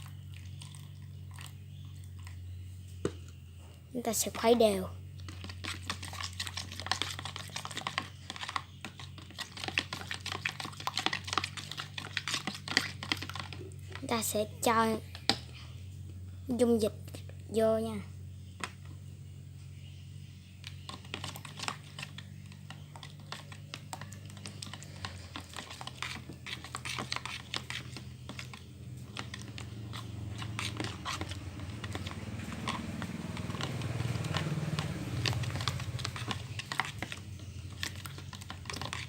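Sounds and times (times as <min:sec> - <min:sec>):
spoon stirring sticky slime: 0:00.0 - 0:39.0.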